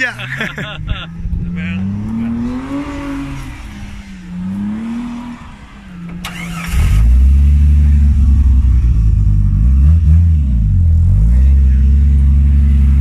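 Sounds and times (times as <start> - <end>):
engine revving: 1.2 - 13.0.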